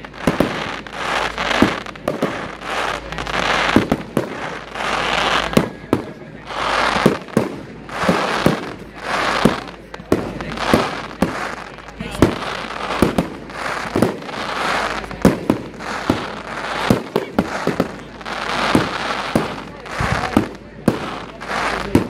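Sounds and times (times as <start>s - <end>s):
crackling firework hiss: 0.0s - 22.0s
firework bangs: 0.0s - 22.0s.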